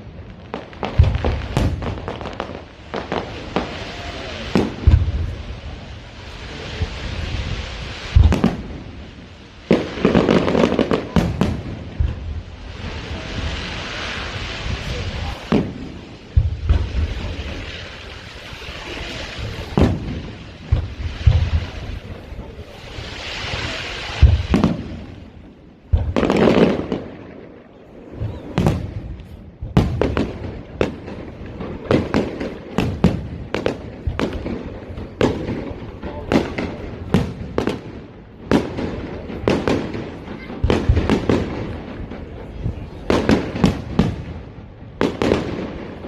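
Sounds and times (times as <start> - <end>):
rapid firework cracks: 0.0 - 46.0.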